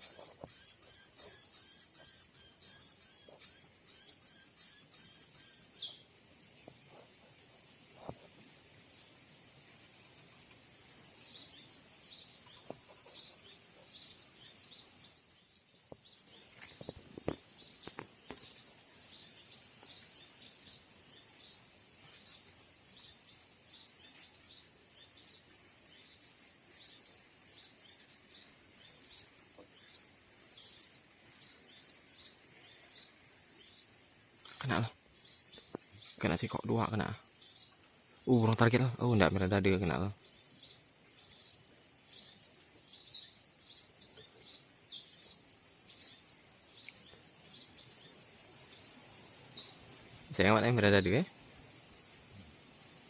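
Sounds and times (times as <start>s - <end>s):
rapid high falling bird chirps: 0.0s - 7.1s, 10.9s - 53.0s.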